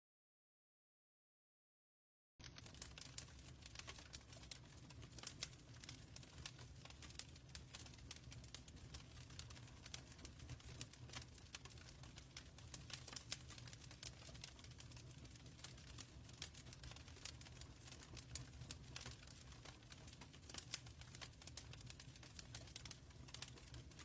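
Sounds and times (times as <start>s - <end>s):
low rumble of flames: 2.4s - 24.0s
wood fire crackling: 2.4s - 24.0s.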